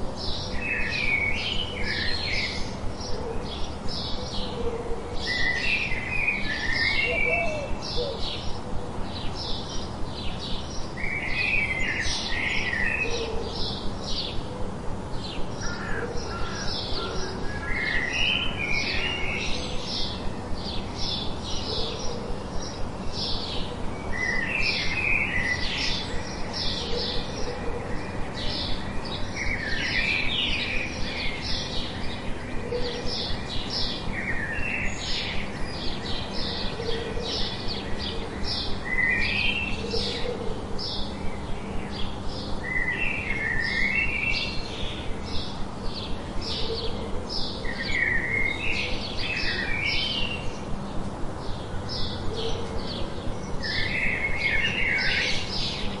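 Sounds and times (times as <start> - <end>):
birds chirping: 0.0 - 56.0
steady background hiss: 0.0 - 56.0.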